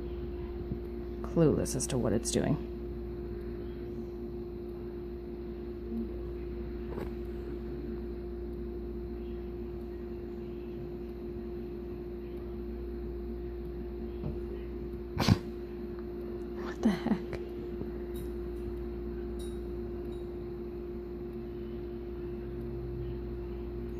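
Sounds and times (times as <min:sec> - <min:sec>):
steady tonal hum: 0:00.0 - 0:23.9.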